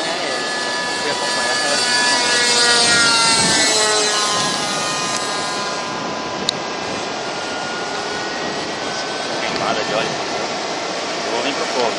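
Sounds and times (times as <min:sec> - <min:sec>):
model airplane engine buzzing: 0:00.0 - 0:11.9
wind noise: 0:00.0 - 0:11.9.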